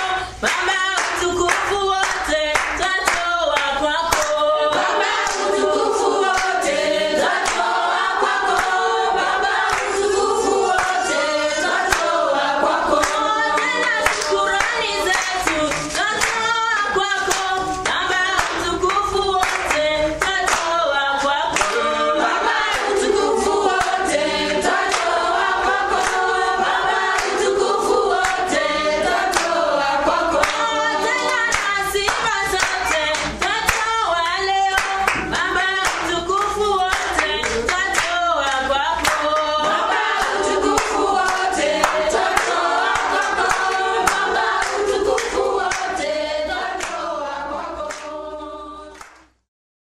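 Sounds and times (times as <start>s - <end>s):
group of voices singing: 0.0s - 49.4s
rhythmic hand clapping: 0.0s - 49.4s.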